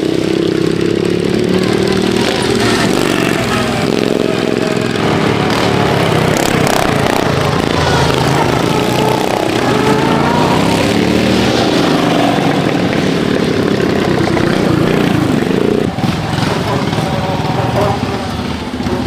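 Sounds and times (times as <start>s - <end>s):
ride-on lawnmower engines revving: 0.0s - 19.0s.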